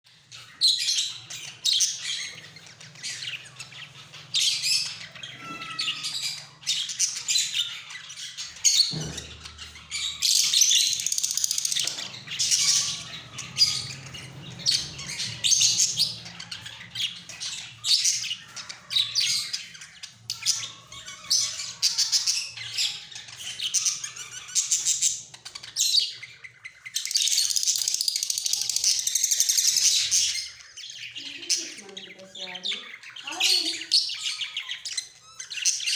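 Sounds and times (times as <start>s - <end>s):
budgerigars chirping and squawking: 0.1s - 35.9s.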